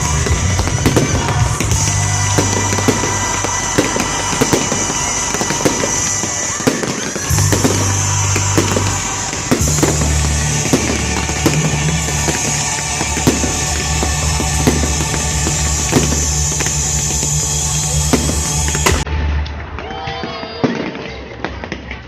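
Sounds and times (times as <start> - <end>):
loud music: 0.0 - 20.1
fireworks bangs and crackles: 0.0 - 22.0.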